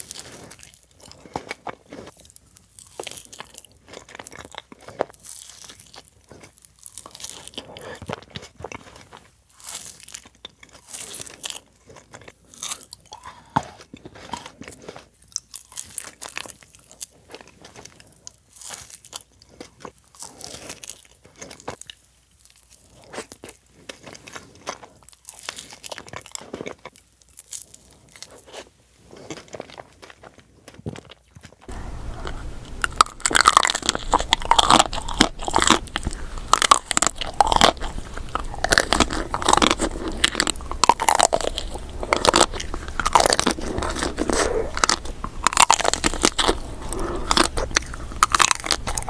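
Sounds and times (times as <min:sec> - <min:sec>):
crunchy eating and chewing: 0:00.0 - 0:49.0.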